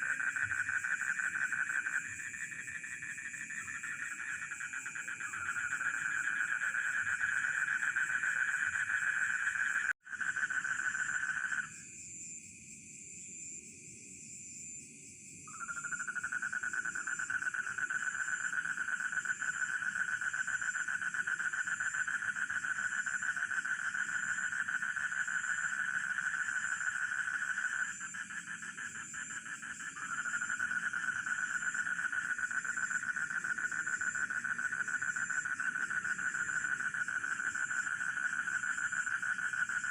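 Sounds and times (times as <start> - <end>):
frog chorus: 0.0 - 11.9, 15.4 - 39.9.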